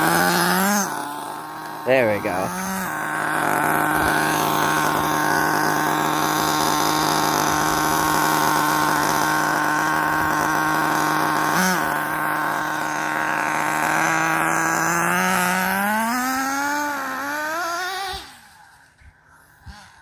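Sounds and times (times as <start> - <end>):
radio-controlled car high pitched drone: 0.0 - 20.0.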